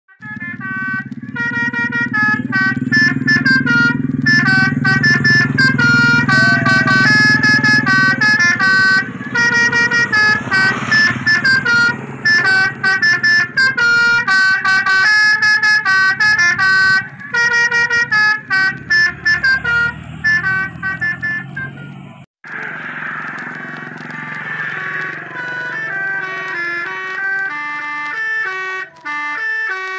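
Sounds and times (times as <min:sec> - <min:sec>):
multi-tone horn tune: 0:00.1 - 0:22.1, 0:22.9 - 0:29.9
vehicle engine running low: 0:00.1 - 0:29.9.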